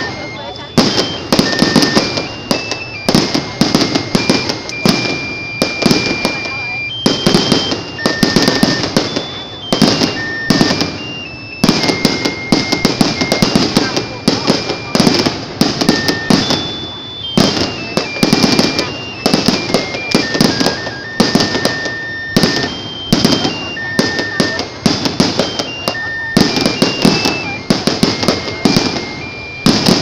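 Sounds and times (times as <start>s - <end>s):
fireworks bursting: 0.0s - 30.0s
high-pitched electronic tune: 0.0s - 30.0s.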